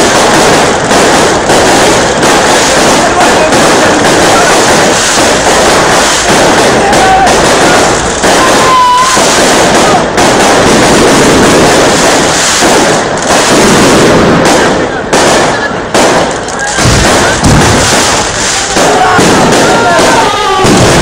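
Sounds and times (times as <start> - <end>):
fireworks bangs and crackles: 0.0 - 21.0
fireworks whistling: 0.0 - 21.0.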